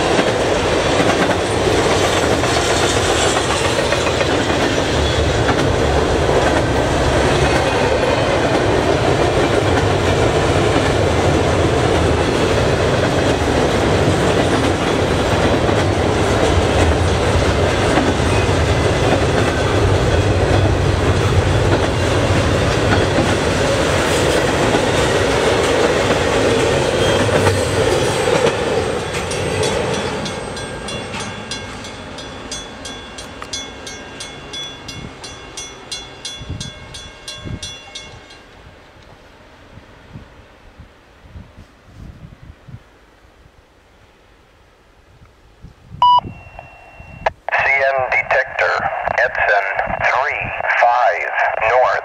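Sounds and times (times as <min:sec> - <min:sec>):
freight train rumbling and rattling: 0:00.0 - 0:42.7.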